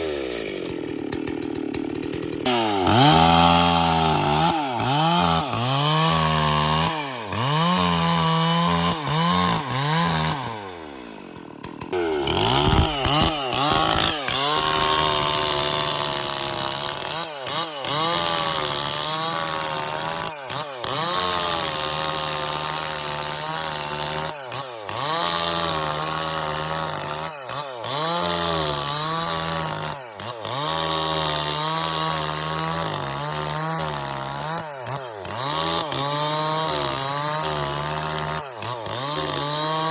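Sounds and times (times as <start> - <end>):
chainsaw running hard: 0.0 - 39.9.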